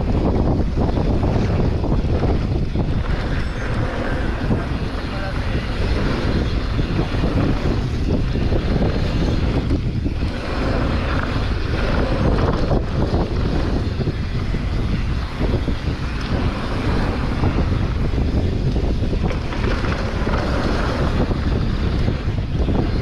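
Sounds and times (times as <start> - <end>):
bike knocks and rattles: 0.0 - 23.0
wind buffeting microphone: 0.0 - 23.0.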